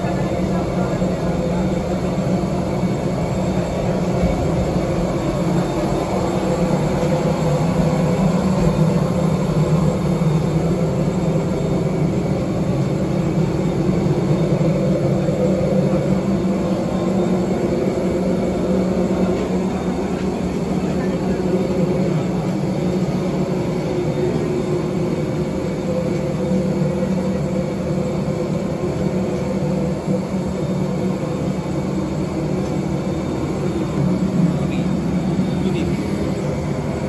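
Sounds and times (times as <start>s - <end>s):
loud machinery drone: 0.0s - 37.0s.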